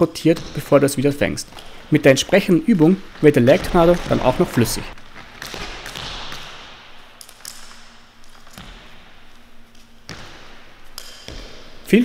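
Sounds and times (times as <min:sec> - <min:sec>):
feet landing on wooden floor: 0:00.2 - 0:11.9
jump rope slapping floor: 0:00.2 - 0:11.9.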